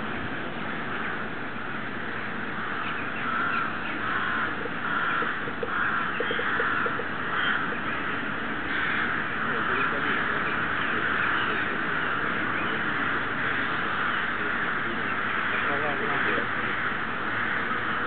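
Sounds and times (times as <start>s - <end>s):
rooks cawing: 2.1s - 18.0s.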